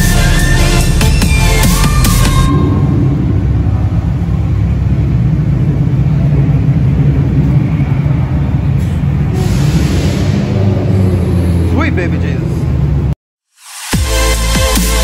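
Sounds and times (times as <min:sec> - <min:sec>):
car engine low rumble: 0:00.0 - 0:13.2.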